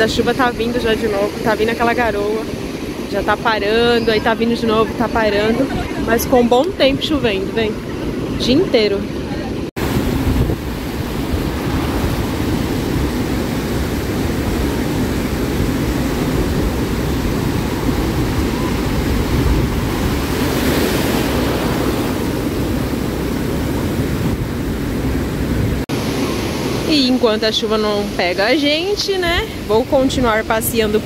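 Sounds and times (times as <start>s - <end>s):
wind buffeting microphone: 0.0s - 26.9s, 28.7s - 31.0s
ocean surf washing onto beach: 0.0s - 31.0s.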